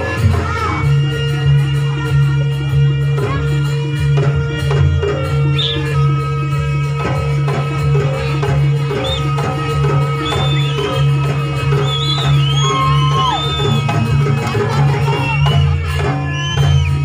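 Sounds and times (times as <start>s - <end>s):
drums in steady rhythm: 0.0s - 17.0s.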